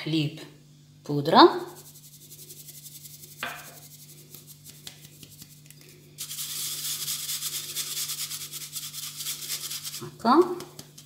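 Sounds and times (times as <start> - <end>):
powder sifted through sieve: 1.6 - 11.0.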